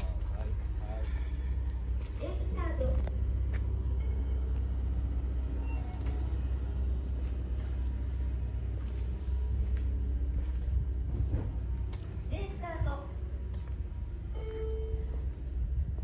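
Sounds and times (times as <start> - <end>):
low rumble of running engine: 0.0 - 16.0.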